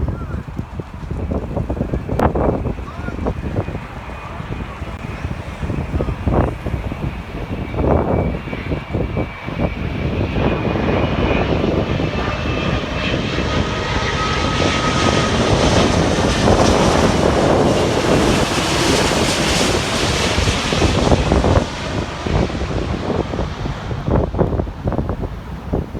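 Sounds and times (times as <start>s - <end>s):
faint jet whine: 0.0s - 25.9s
jet airliner passing: 0.0s - 25.9s
wind buffeting microphone: 0.0s - 25.9s.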